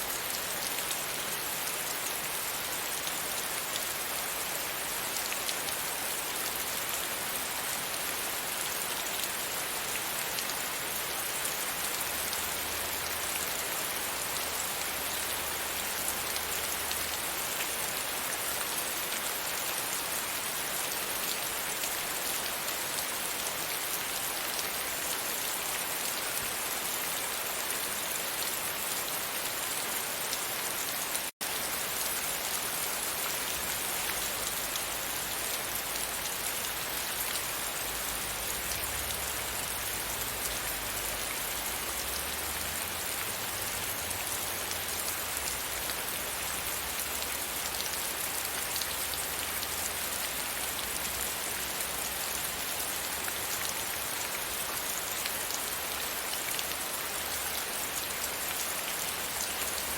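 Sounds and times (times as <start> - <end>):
rain on a window pane: 0.0 - 59.9.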